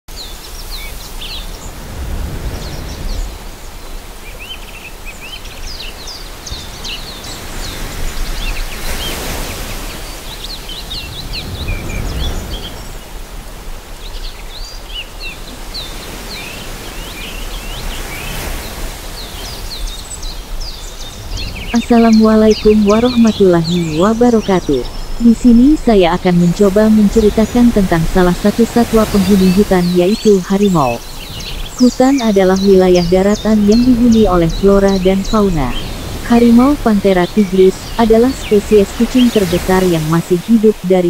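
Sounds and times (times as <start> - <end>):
songbirds chirping: 0.1 - 41.0.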